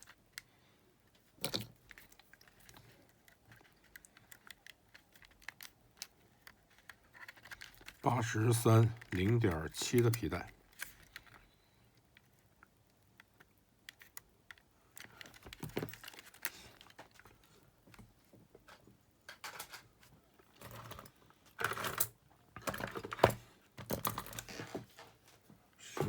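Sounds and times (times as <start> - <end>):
plastic and metal parts clicking: 0.0 - 24.7.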